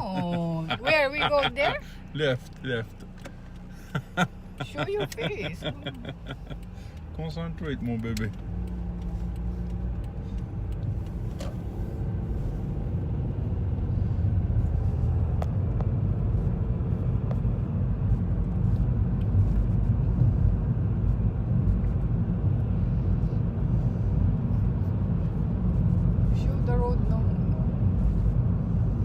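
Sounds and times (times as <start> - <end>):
car rumble inside cabin: 0.0 - 29.0.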